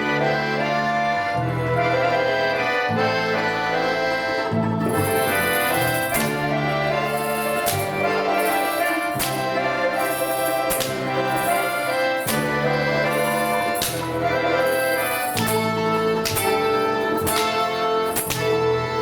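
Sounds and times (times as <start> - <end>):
small instrumental ensemble playing: 0.0 - 19.0.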